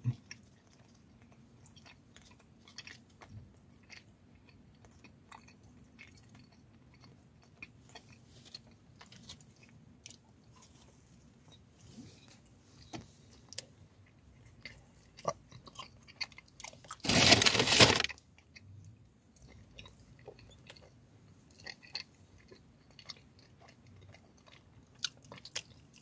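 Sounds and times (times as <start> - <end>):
chewing soft donut: 0.0 - 17.0, 18.0 - 26.0.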